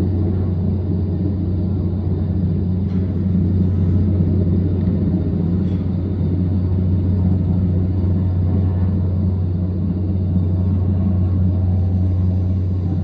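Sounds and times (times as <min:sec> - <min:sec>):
distant helicopter drone: 0:00.0 - 0:13.0.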